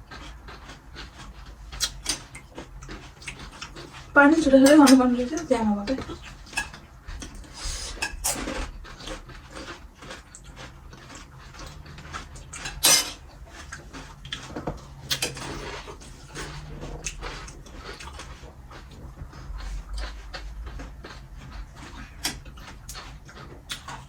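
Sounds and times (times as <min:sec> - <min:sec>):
person eating fast: 0:00.0 - 0:24.0.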